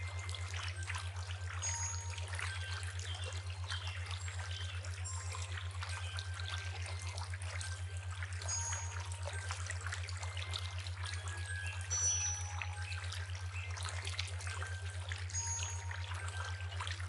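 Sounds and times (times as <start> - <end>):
river water trickling: 0.0 - 17.0.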